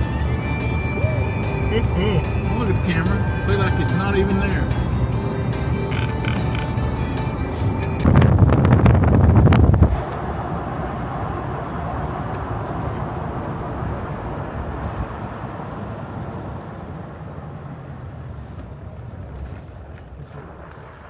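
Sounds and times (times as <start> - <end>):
vehicle passing rumble: 0.0 - 21.0.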